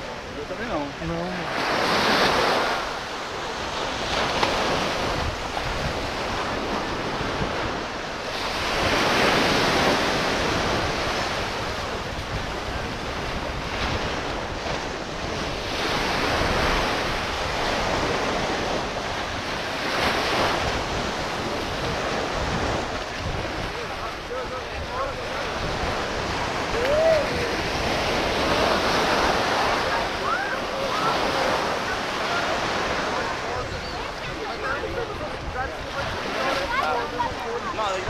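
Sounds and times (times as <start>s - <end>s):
surf washing onto beach: 0.0s - 38.0s
wind buffeting microphone: 1.9s - 38.0s.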